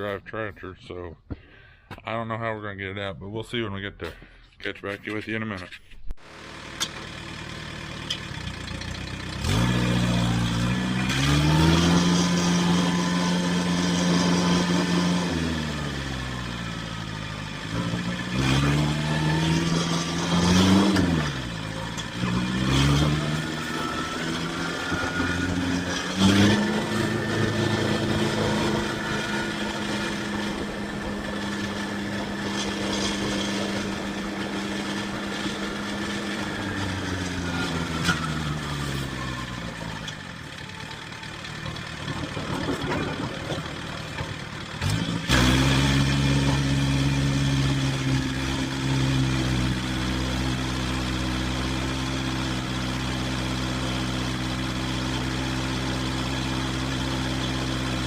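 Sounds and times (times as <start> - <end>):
vehicle engine running: 6.2 - 58.0.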